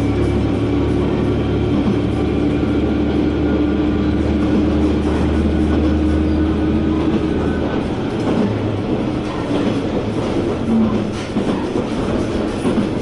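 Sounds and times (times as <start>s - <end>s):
diesel railcar engine drone: 0.0s - 13.0s
wheels rumbling on rails: 0.0s - 13.0s.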